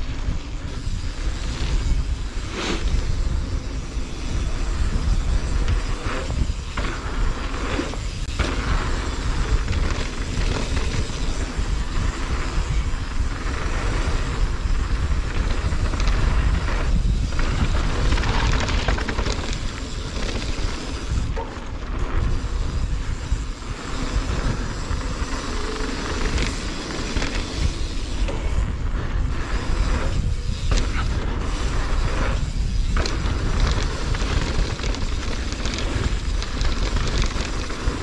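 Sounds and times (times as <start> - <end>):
bike tyres on dirt: 0.0 - 38.0
wind buffeting microphone: 0.0 - 38.0.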